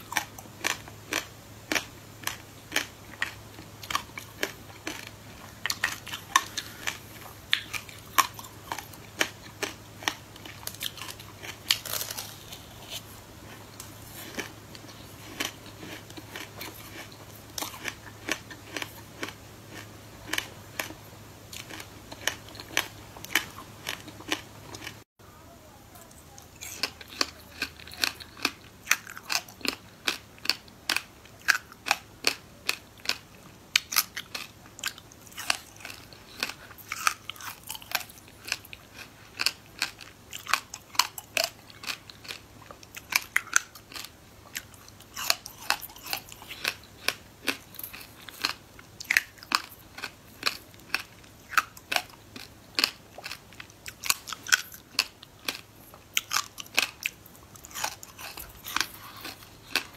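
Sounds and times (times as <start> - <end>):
frozen fruit crunching: 0.0 - 25.0, 26.0 - 59.9.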